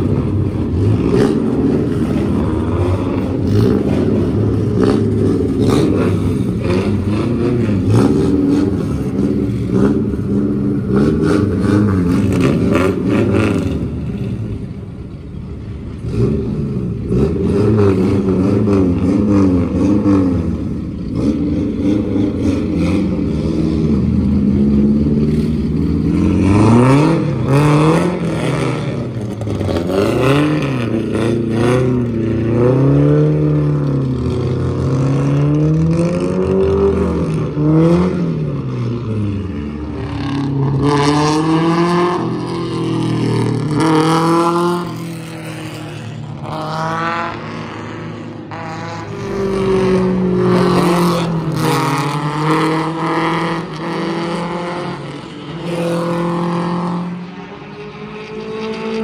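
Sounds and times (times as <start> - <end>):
race car engines passing by: 0.0 - 59.0.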